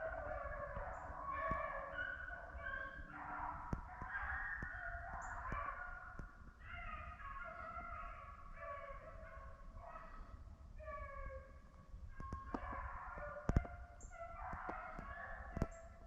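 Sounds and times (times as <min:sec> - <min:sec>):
distant hounds baying: 0:00.0 - 0:16.0.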